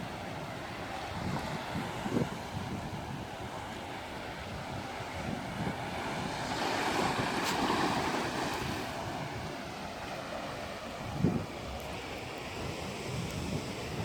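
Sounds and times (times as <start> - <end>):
rushing open-air noise: 0.0 - 14.0.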